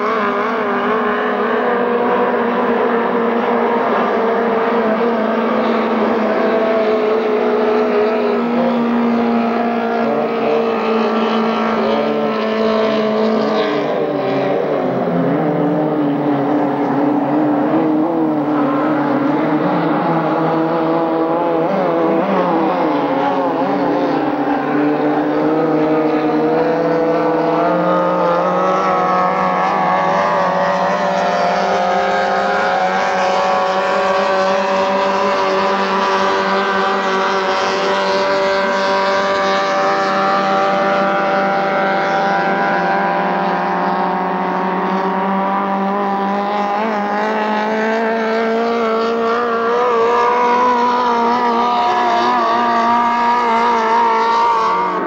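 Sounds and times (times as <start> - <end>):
racing boat engines: 0.0 - 55.0.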